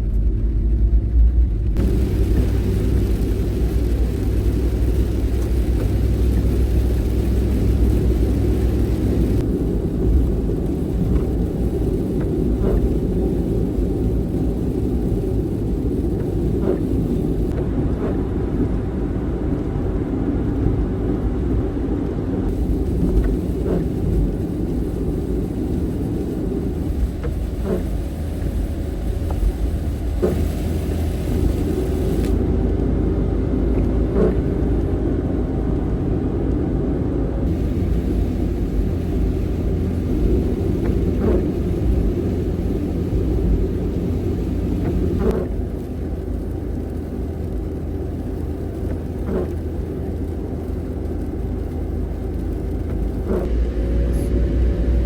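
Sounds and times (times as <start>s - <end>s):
van engine and road rumble: 0.0s - 55.0s.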